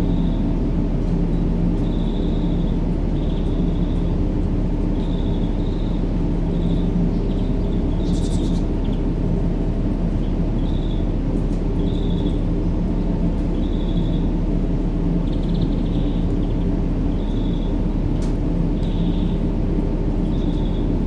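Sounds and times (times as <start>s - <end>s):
low rumbling white noise: 0.0s - 21.0s.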